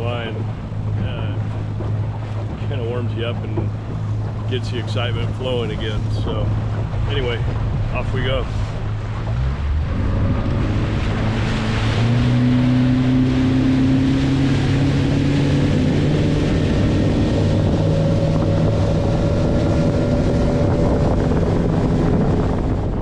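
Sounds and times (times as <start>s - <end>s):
motorboat engine: 0.0s - 23.0s
water noise: 0.0s - 23.0s
wind noise: 0.0s - 23.0s.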